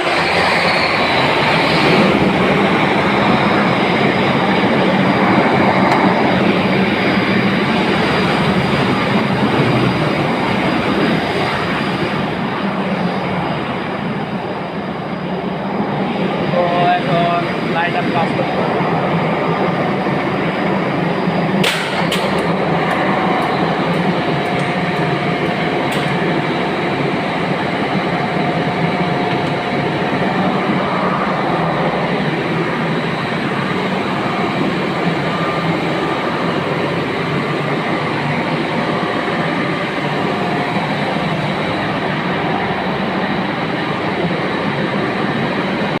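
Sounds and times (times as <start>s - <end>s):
generator running: 0.0s - 46.0s.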